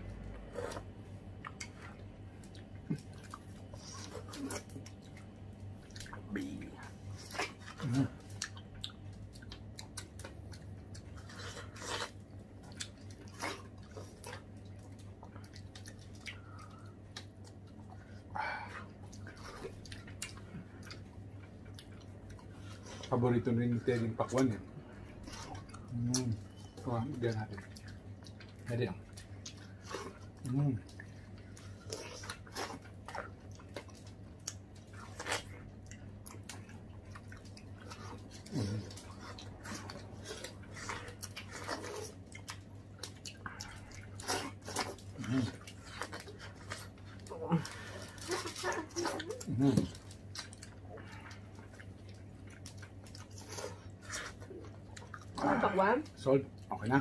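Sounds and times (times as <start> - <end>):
people biting and chewing watermelon: 0.0 - 57.0
steady low hum: 0.0 - 57.0.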